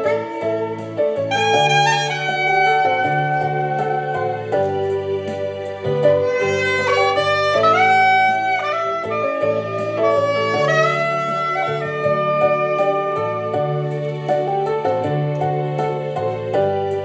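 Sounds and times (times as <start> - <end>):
soprano saxophone melody: 0.0 - 14.6
backing track with bass line: 0.0 - 17.0.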